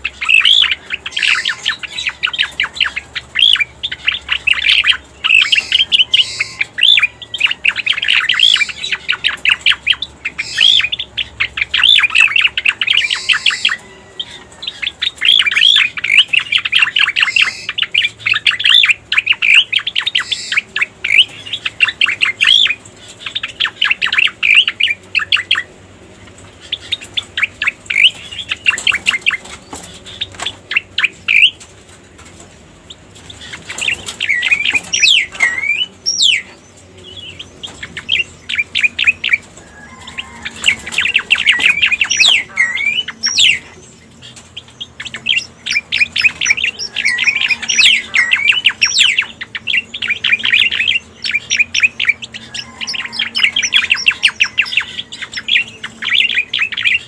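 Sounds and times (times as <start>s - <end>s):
bird rapid chirping song: 0.0s - 57.0s.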